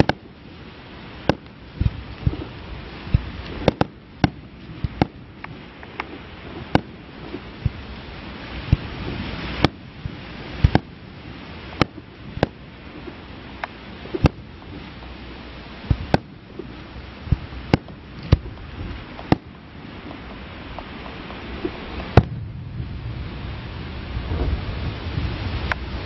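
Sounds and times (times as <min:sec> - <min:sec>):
firework shells bursting: 0:00.0 - 0:22.6
steady hiss: 0:00.0 - 0:26.0.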